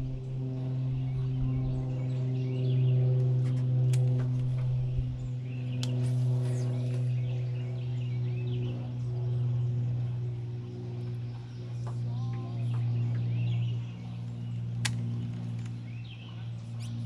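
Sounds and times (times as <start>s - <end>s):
electric trolling motor humming: 0.0s - 17.0s
birds chirping: 0.1s - 17.0s.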